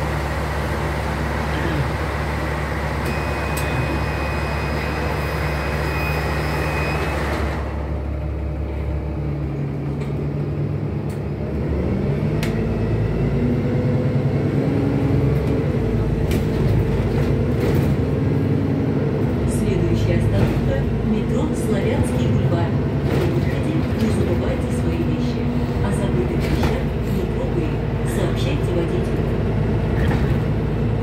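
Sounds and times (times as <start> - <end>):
bus engine rumble: 0.0 - 31.0
road noise: 0.0 - 31.0.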